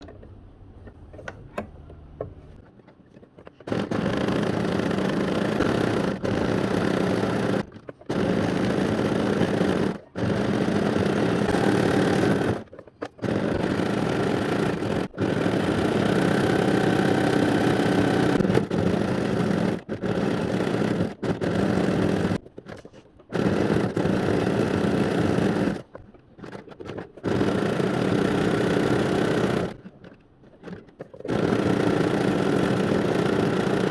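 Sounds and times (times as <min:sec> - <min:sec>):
sewing machine stitching fast: 0:03.6 - 0:29.9, 0:30.6 - 0:33.9.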